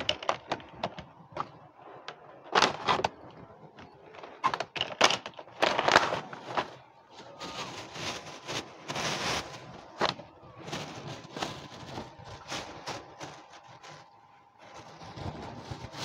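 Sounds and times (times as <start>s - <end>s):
cat crunching dry kibble: 0.0s - 6.8s, 7.5s - 16.0s.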